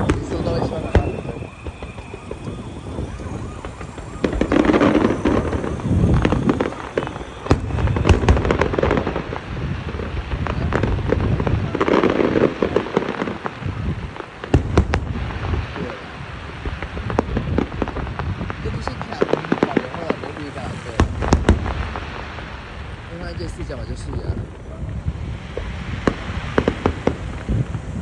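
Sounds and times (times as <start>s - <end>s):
fireworks booming: 0.0s - 28.0s
fireworks crackling: 0.0s - 28.0s.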